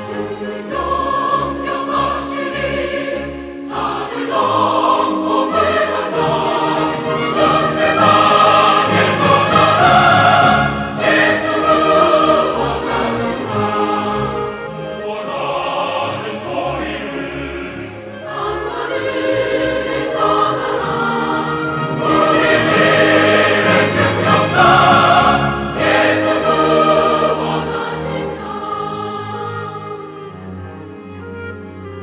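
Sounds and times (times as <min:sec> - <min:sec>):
church choir singing a hymn: 0:00.0 - 0:30.6
orchestral accompaniment: 0:00.0 - 0:32.0.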